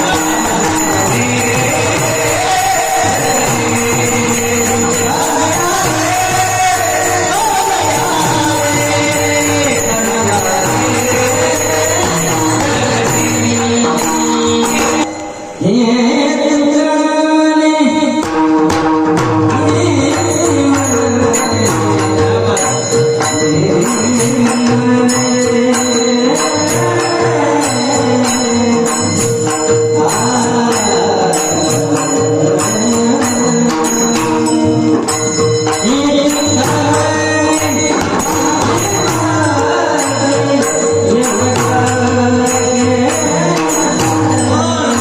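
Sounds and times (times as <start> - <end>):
jingling cymbals: 0.0 - 16.4, 20.0 - 45.0
devotional singing: 0.0 - 18.4, 19.4 - 45.0.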